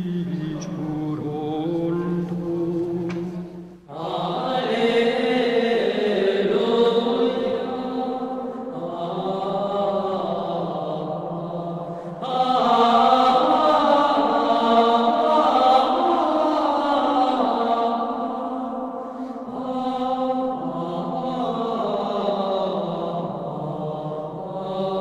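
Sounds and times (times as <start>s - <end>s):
slow vocal chant: 0.0s - 25.0s.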